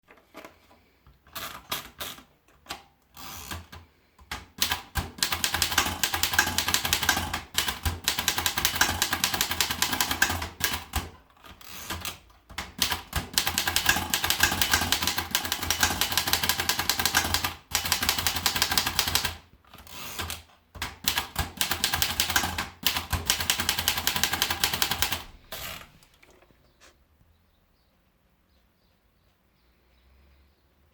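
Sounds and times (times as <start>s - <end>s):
typewriter typing: 1.3s - 26.4s.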